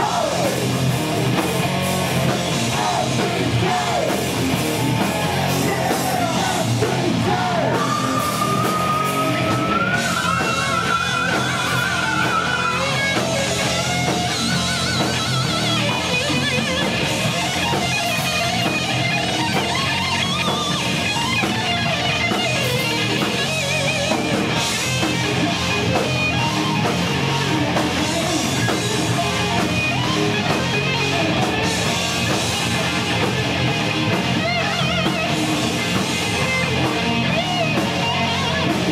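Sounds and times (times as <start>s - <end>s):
distorted electric guitar solo: 0.0s - 38.9s
drum kit: 0.0s - 38.9s.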